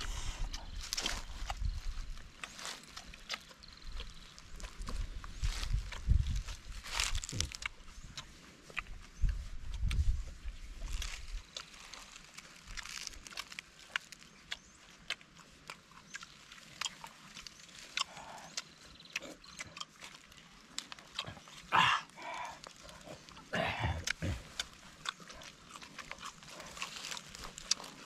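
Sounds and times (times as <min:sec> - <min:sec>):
crunching of fried food: 0:00.0 - 0:28.0
wet chewing and mouth smacks: 0:00.0 - 0:28.0.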